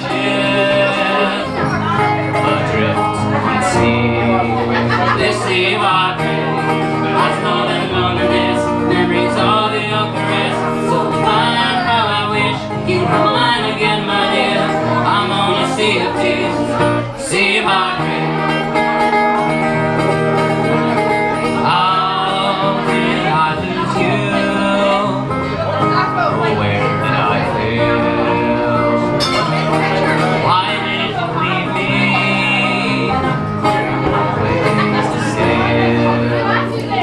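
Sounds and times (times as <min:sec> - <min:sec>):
man and woman singing: 0:00.0 - 0:19.5, 0:21.3 - 0:37.0
strummed acoustic guitar: 0:00.0 - 0:37.0.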